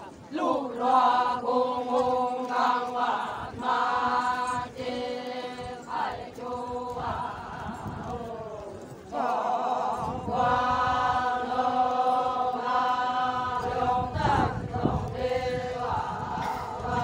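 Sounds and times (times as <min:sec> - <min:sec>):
women chanting in unison: 0:00.0 - 0:17.0.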